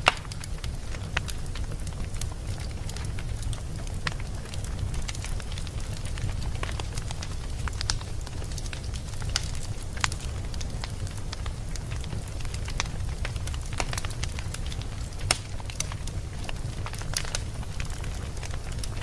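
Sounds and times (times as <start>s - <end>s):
fire crackling in a fireplace: 0.0s - 19.0s.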